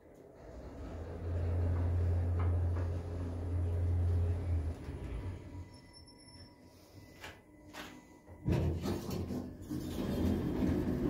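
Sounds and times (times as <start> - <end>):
lift car hum and rumble: 0.0 - 11.0.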